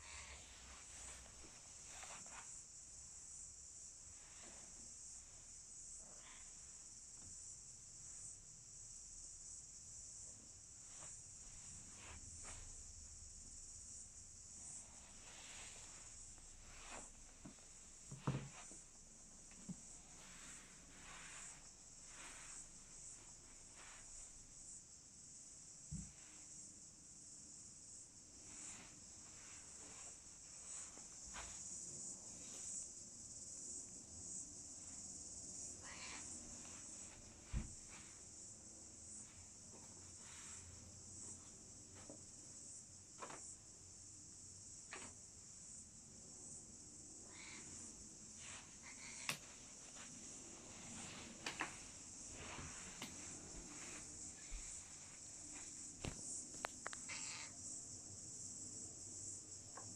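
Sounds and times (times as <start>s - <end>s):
faint soft rustles: 0.0s - 46.0s, 47.0s - 59.5s
crickets chirping: 0.0s - 59.9s
steady high hiss: 0.0s - 59.9s.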